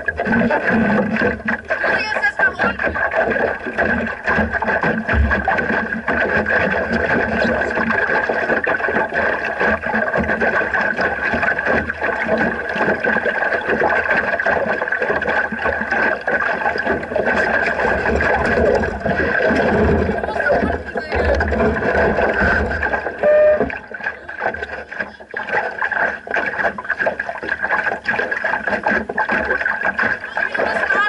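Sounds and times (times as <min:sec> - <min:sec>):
water and wind rushing: 0:00.0 - 0:31.0
water slapping against hull: 0:00.0 - 0:31.0.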